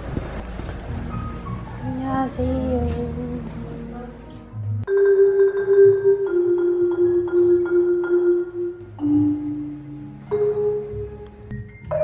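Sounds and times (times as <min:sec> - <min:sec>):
slow melody of held notes: 0:01.1 - 0:12.0.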